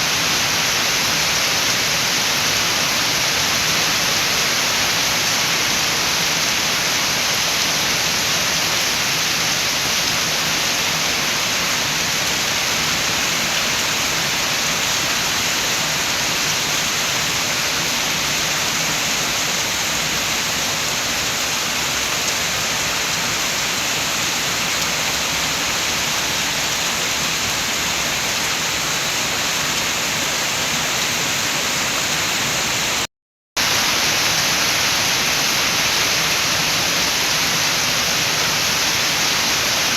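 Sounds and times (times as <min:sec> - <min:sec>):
steady rain with wind: 0:00.0 - 0:39.9.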